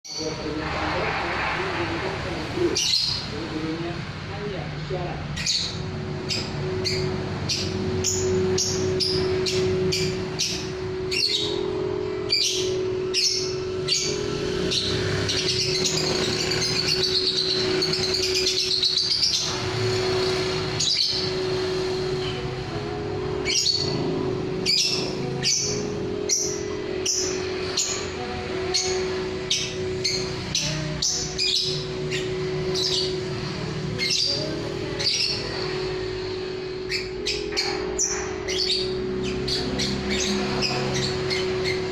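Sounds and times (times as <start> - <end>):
bird chirping and trilling: 0.0 - 4.2, 4.8 - 41.9
low hum: 0.2 - 41.9.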